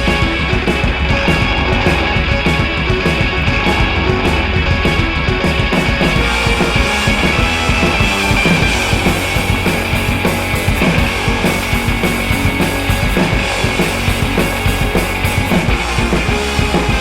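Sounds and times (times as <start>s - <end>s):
rock music with distorted guitar: 0.0s - 17.0s.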